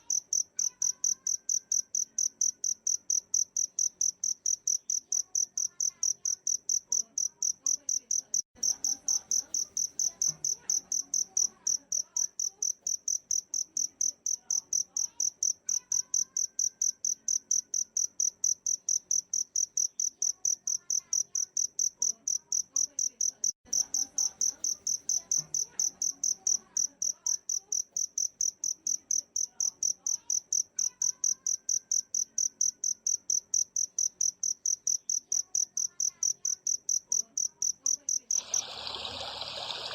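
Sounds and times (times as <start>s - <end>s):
high cricket-like chirps: 0.0s - 39.9s.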